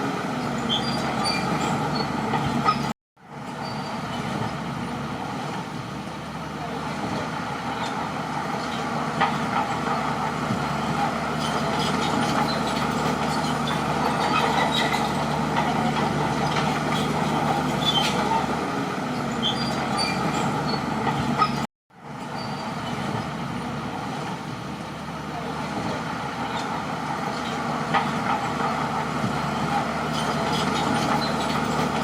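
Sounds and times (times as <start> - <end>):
bulldozer diesel engine running: 0.0 - 32.0
steel tracks squeaking and clicking: 0.4 - 6.2, 7.0 - 18.5, 19.1 - 32.0.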